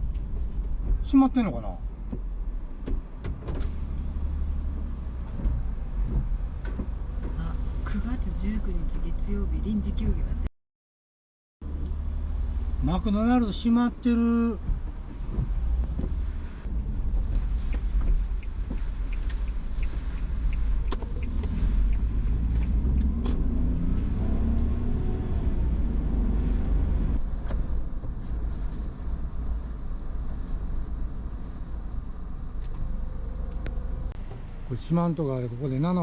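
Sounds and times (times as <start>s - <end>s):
car engine and tyres rumbling: 0.0s - 10.5s, 11.6s - 36.0s.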